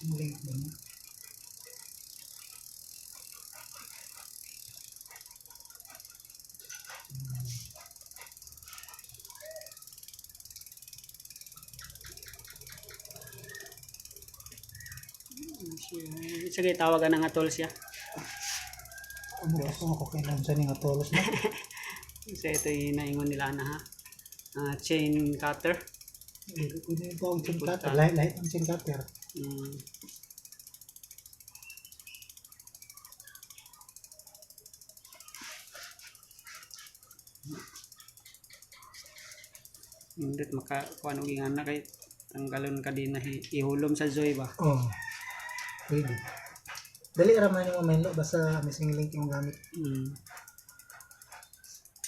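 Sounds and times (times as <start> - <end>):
bicycle hub ticking: 0.0 - 52.0.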